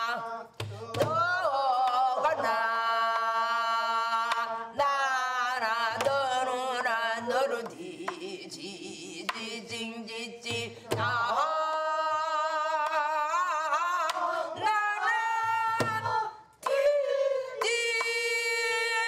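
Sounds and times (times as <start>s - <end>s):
woman singing with vibrato: 0.0s - 19.0s.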